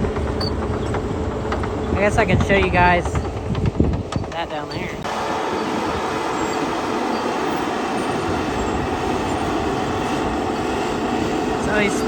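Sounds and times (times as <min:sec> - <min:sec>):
bulldozer engine and tracks: 0:00.0 - 0:12.0.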